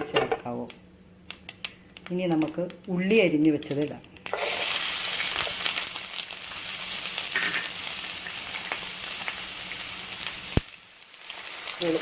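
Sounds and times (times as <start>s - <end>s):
onion sizzling in oil: 0.5s - 12.0s.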